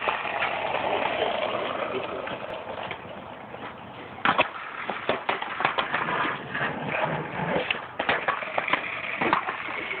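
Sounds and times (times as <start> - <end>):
skateboard clacking on concrete: 0.0 - 10.0
skateboard wheels rolling: 0.0 - 10.0.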